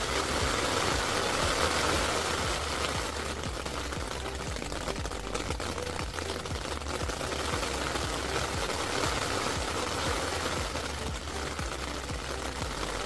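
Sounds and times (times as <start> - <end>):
rain pattering on tarp: 0.0 - 13.0.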